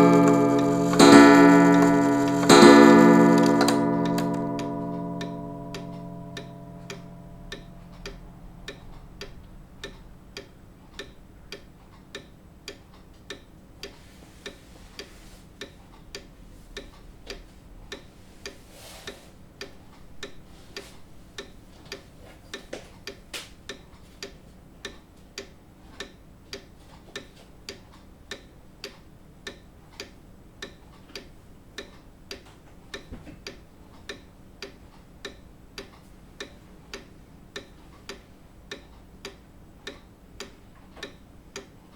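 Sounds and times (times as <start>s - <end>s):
grandfather clock ticking: 0.0s - 41.9s.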